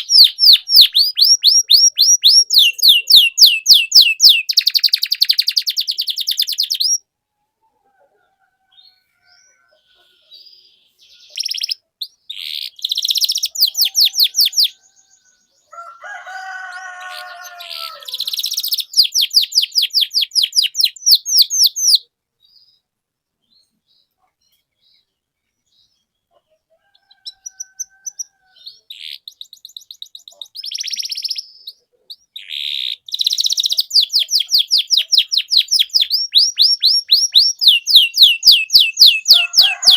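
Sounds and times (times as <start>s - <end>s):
canary singing trills: 0.0s - 7.1s, 8.2s - 22.9s, 23.5s - 39.9s.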